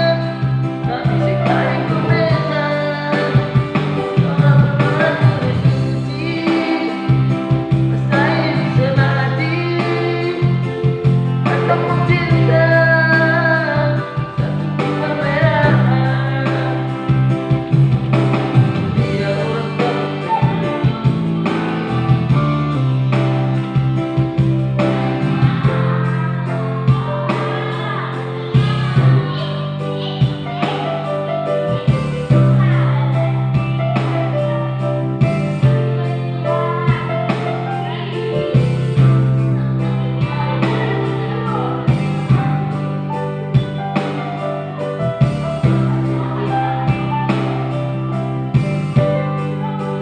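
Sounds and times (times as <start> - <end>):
instrumental accompaniment: 0.0 - 50.0
person singing: 0.0 - 50.0.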